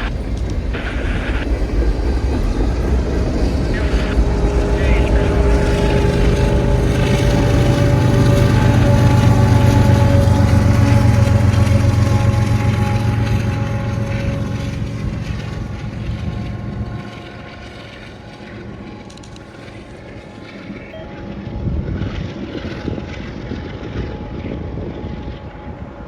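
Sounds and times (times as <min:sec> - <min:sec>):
locomotive engine drone: 0:00.0 - 0:26.0.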